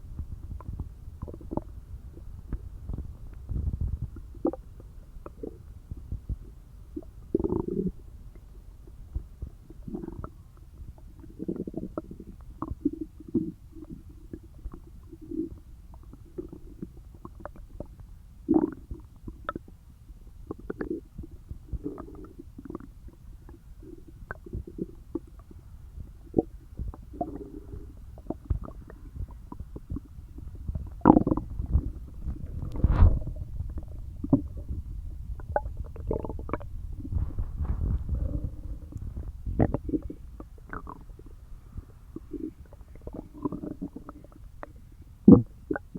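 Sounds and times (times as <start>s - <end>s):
stomach gurgling and growling: 0.0s - 45.9s.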